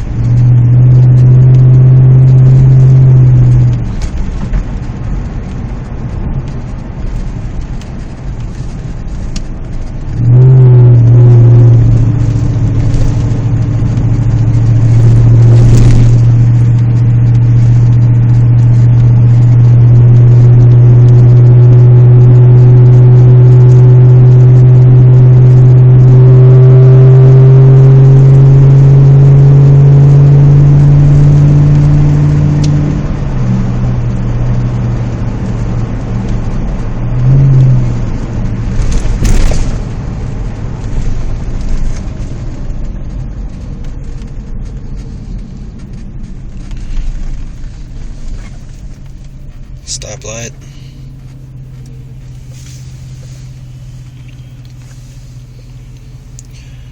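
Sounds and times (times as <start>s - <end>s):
deep car exhaust note: 0.0s - 4.5s, 9.4s - 45.0s, 45.6s - 56.9s.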